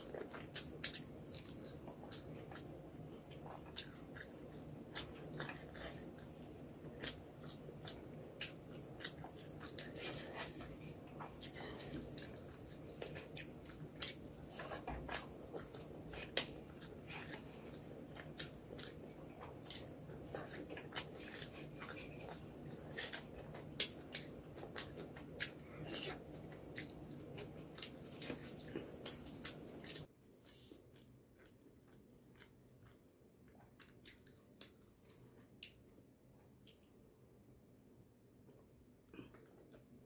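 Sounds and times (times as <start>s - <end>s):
person chewing food: 0.0s - 37.0s, 38.4s - 40.0s.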